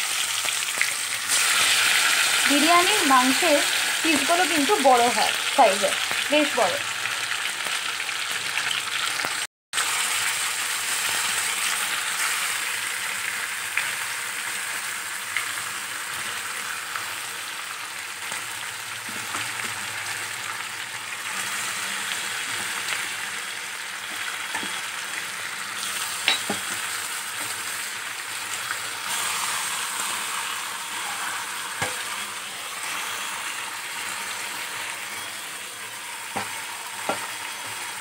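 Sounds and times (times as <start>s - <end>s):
chicken sizzling in oil: 0.0s - 38.0s.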